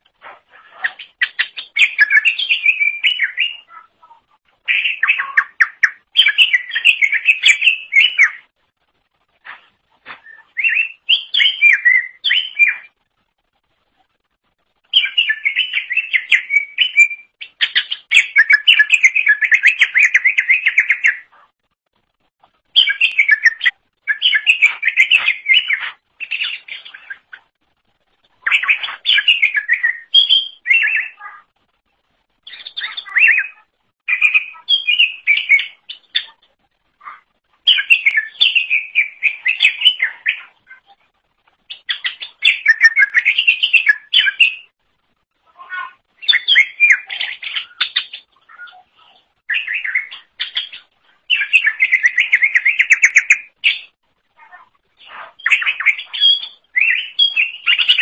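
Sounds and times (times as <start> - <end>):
bird chattering and whistling: 0.5 - 8.5, 10.2 - 12.9, 14.9 - 21.3, 22.8 - 27.3, 28.4 - 31.4, 32.4 - 36.4, 37.0 - 40.9, 41.7 - 44.7, 45.6 - 58.0.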